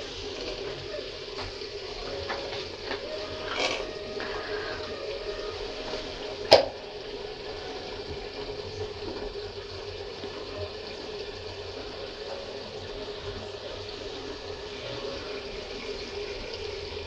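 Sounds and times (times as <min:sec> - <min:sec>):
gas burner hissing: 0:00.0 - 0:17.0.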